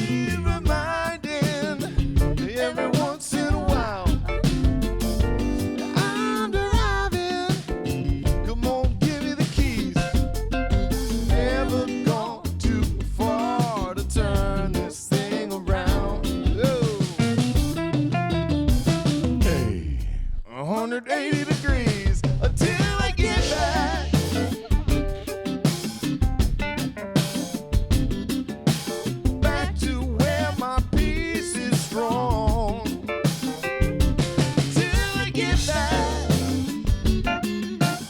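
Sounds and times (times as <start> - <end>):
band playing a song: 0.0 - 19.8, 21.1 - 38.0.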